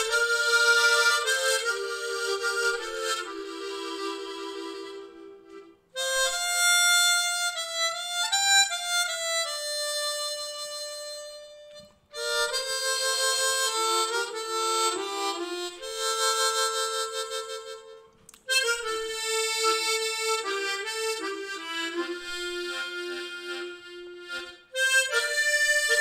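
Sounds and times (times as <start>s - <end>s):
harmonica melody: 0.0s - 26.0s.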